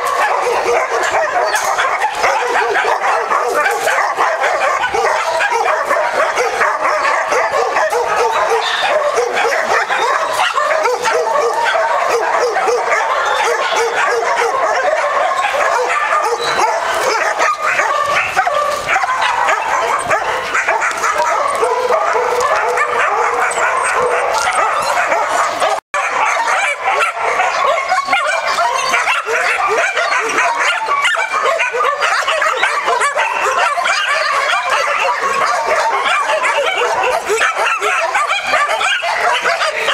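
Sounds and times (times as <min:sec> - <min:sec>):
dogs barking and yelping: 0:00.0 - 0:39.9.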